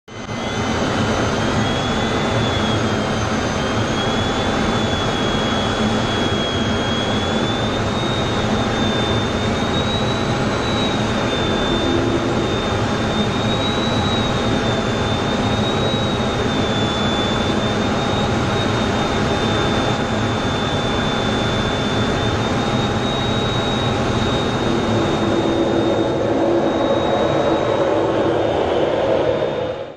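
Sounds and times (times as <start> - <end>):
jet engine roar and whine: 0.1 - 29.9.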